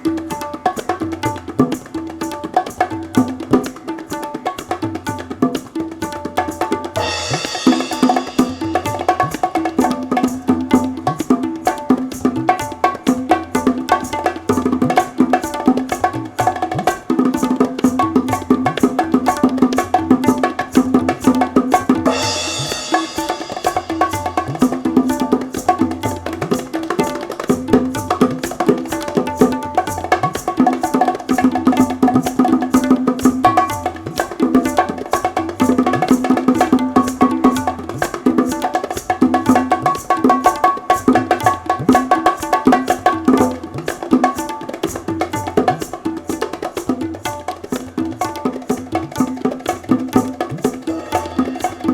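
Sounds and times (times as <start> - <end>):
bongos: 0.0 - 51.9
cajon: 0.0 - 51.9
hand drums playing fast rhythm: 0.0 - 51.9
kanjira: 0.0 - 51.9
tabla: 0.0 - 51.9.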